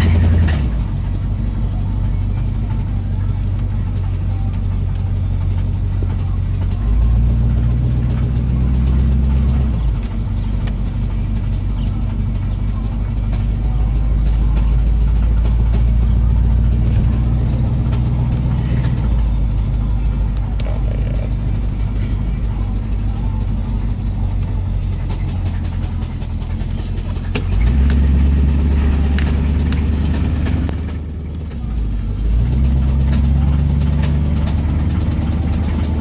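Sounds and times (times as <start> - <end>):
engine knock: 0.0 - 36.0
truck engine running: 0.0 - 36.0.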